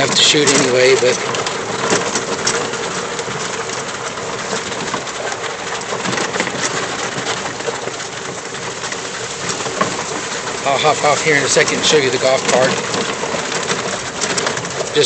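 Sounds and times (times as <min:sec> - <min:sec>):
golf cart rushing noise: 0:00.0 - 0:15.0.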